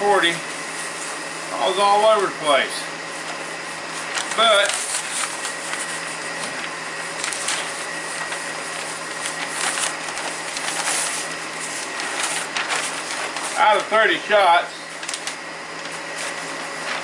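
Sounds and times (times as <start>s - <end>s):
paper rustling and crinkling: 3.2s - 17.0s.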